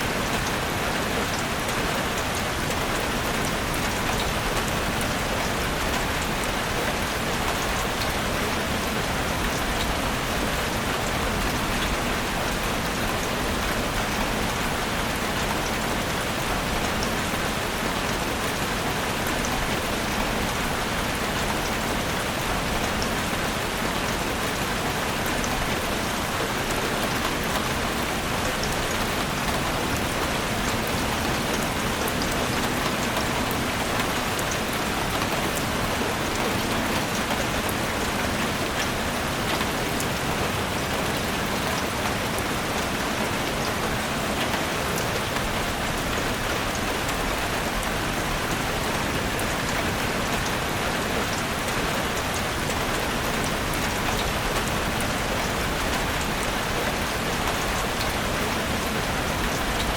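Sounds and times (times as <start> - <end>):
rain falling in a forest: 0.0 - 59.9.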